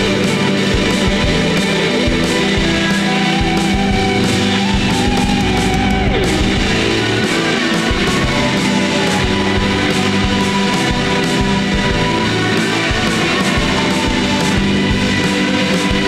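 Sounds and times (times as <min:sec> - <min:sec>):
distorted electric guitars: 0:00.0 - 0:16.0
steady drum beat: 0:00.0 - 0:16.0.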